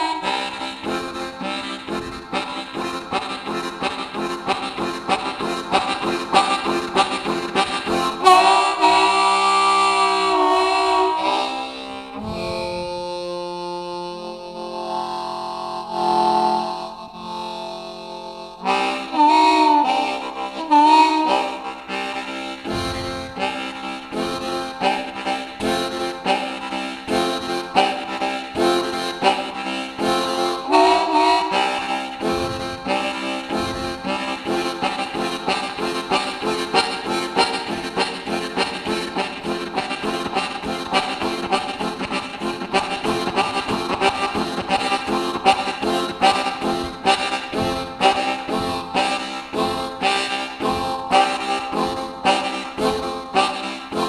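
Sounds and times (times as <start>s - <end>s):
harmonica playing chords: 0.0s - 54.0s.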